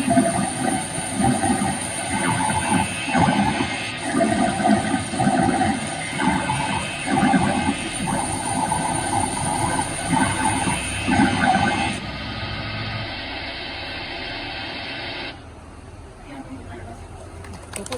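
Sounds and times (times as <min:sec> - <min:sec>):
harsh electronic noise music: 0:00.0 - 0:15.2.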